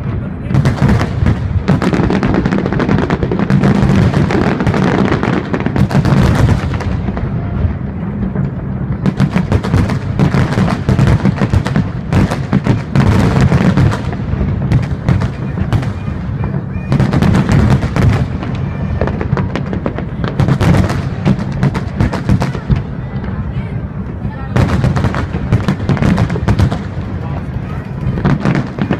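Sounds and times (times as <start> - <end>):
fireworks booming and popping: 0.0 - 28.9.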